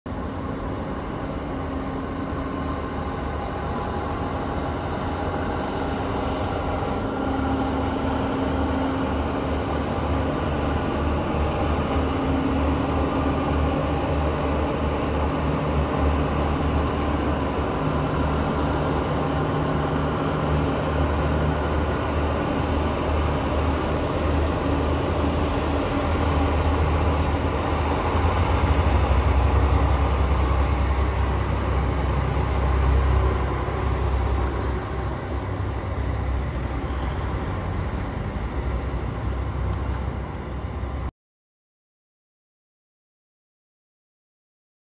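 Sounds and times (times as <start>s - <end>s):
diesel train rumbling past: 0.1s - 41.1s.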